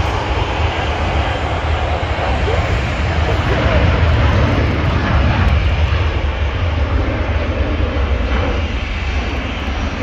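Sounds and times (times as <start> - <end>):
jet engines at take-off power: 0.0 - 10.0.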